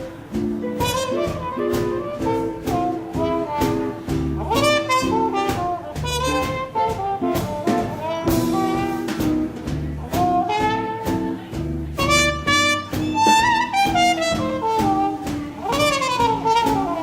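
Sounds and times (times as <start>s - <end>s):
swing band playing: 0.0s - 17.0s.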